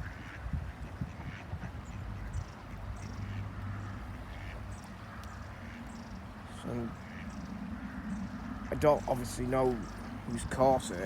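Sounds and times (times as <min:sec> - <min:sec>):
ducks quacking: 0:00.0 - 0:11.0
low steady hum: 0:00.0 - 0:11.0.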